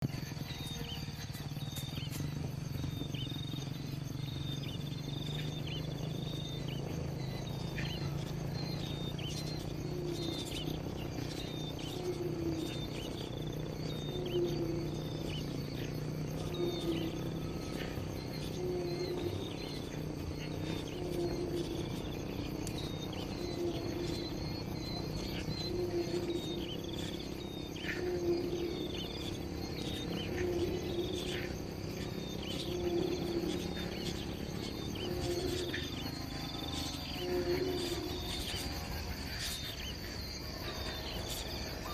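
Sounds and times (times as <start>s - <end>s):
birds chirping: 0.0s - 41.9s
insects chirring: 0.0s - 41.9s.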